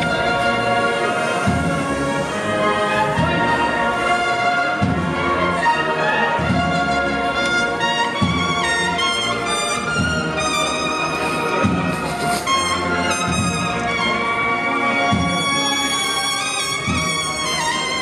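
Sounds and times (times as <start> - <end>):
brass band playing slow march: 0.0 - 18.0.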